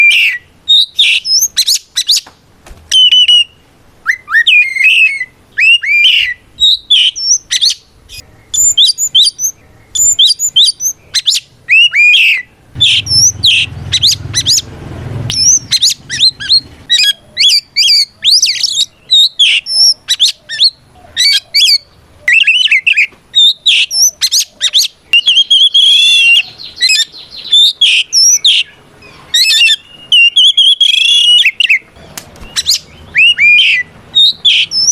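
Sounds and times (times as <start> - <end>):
bird singing whistles and chirps: 0.0 - 2.3, 2.9 - 34.9.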